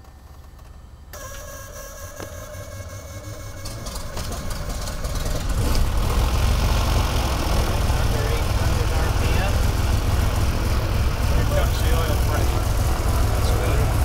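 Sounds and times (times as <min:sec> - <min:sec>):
aircraft engine starting and running: 0:00.0 - 0:14.0
starter motor whining: 0:00.0 - 0:14.0.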